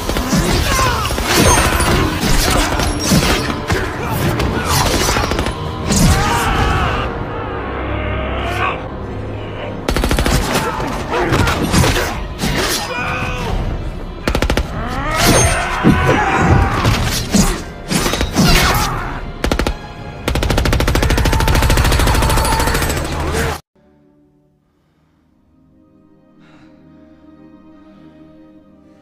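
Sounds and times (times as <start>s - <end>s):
dramatic orchestral music: 0.0s - 29.0s.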